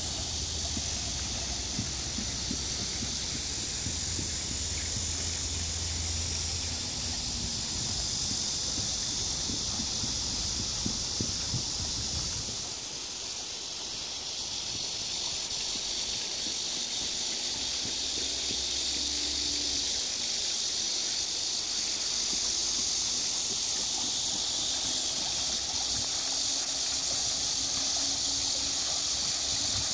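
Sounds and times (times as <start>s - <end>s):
cicadas buzzing: 0.0s - 29.9s.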